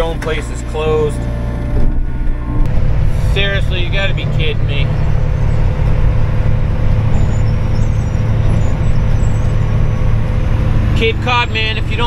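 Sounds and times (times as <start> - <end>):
diesel truck engine droning: 0.0 - 12.0
tyre and road noise: 0.0 - 12.0.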